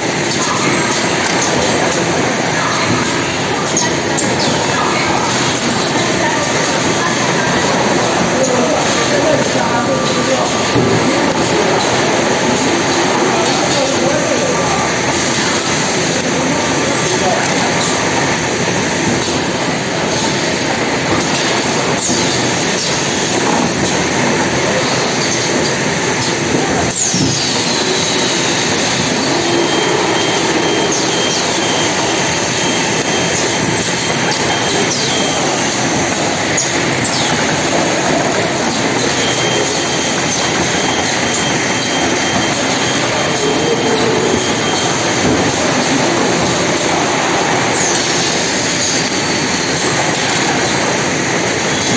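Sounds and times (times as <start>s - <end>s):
packaging machinery running: 0.0s - 51.9s
high falling squeals: 0.1s - 51.9s.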